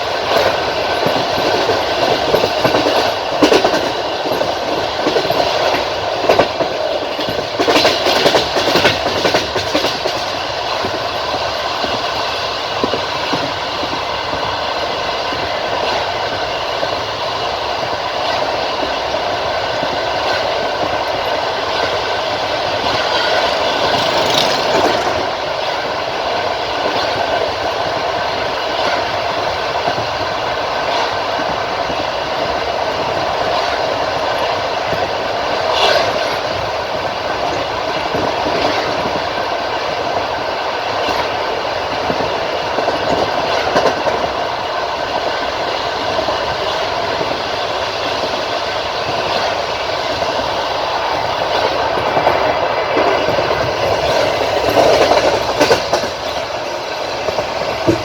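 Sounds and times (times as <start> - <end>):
train running rumble: 0.0 - 58.0
train wheels clacking over rail joints: 0.0 - 58.0.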